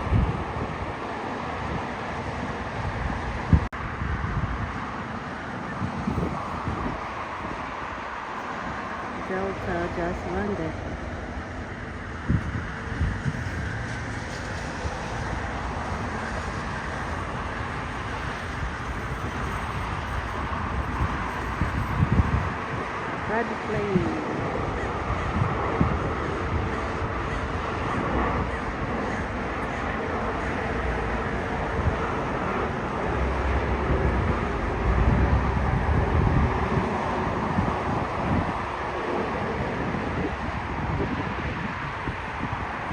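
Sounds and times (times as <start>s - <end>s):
jet engines running: 0.0s - 42.9s
wind on microphone: 0.0s - 42.9s.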